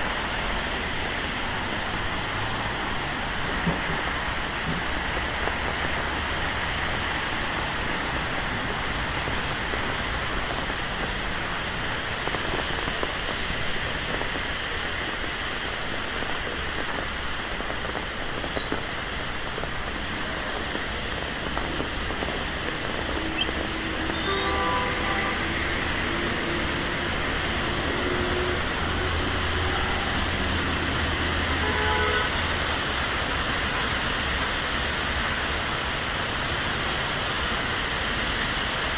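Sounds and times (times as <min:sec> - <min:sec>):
rain pattering on street: 0:00.0 - 0:38.9.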